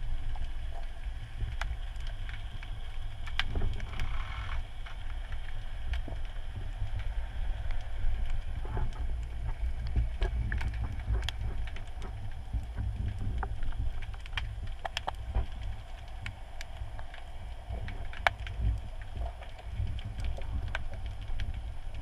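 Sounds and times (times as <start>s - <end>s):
underwater rumble of moving water: 0.0s - 22.0s
sharp underwater clicks: 0.3s - 22.0s.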